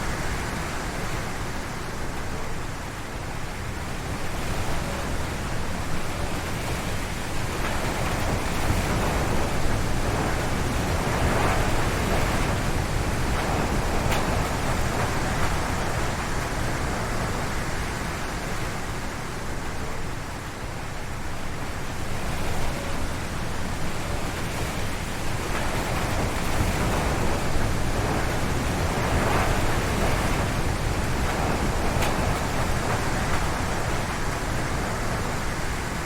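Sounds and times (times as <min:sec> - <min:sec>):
strong wind gusting through trees: 0:00.0 - 0:36.0.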